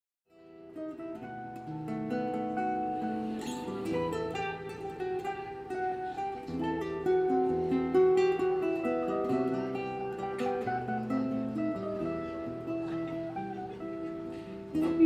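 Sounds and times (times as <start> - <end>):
acoustic guitar plucked and strummed: 0.3 - 15.0.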